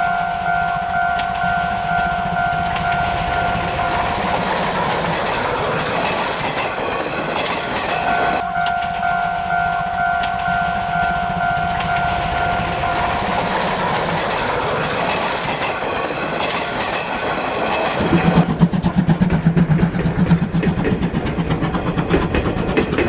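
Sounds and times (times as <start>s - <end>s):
steam locomotive rumble and clatter: 0.0s - 23.0s.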